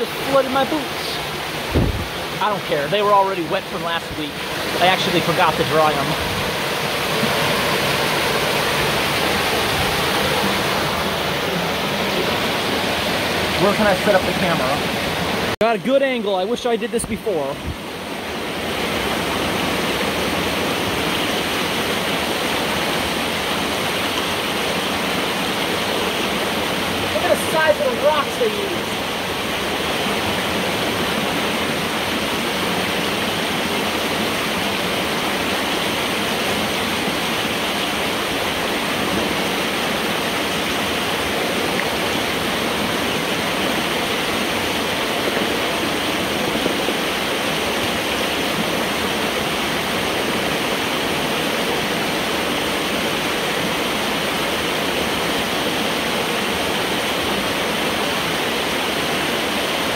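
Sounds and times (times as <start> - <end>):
water rushing through metal pipe: 0.0 - 59.9.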